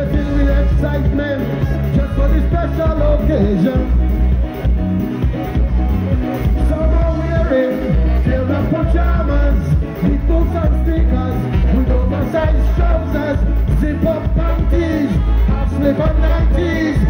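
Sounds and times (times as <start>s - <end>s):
person singing: 0.0s - 4.2s, 6.4s - 17.0s
brass horns: 0.0s - 4.4s, 6.2s - 17.0s
calypso band playing: 0.0s - 17.0s
heavy bass line: 0.0s - 17.0s.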